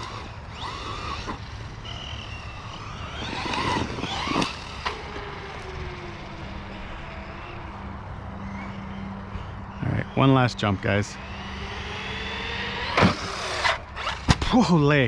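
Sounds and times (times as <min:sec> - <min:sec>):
electric motor whining: 0:00.0 - 0:14.5.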